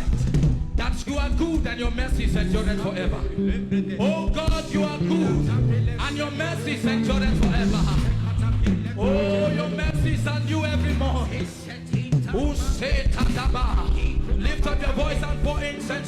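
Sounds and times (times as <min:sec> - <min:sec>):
steady bass line: 0:00.0 - 0:16.0
worship band playing: 0:00.0 - 0:16.0
voices singing: 0:01.6 - 0:16.0.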